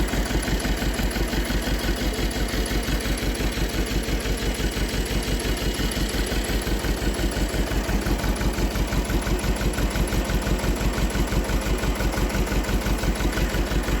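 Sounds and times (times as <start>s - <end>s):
tractor engine chugging: 0.0s - 14.0s.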